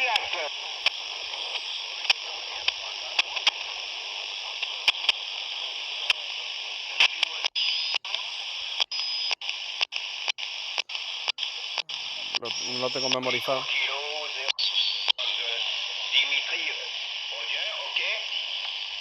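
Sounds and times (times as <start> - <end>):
radio static crackles: 0.0 - 19.0
radio static hiss: 0.0 - 19.0.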